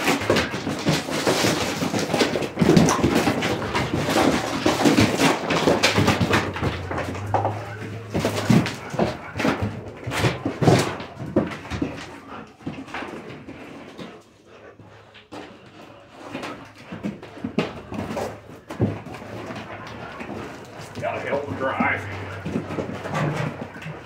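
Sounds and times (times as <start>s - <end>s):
paws scuffling on concrete: 0.0s - 24.0s.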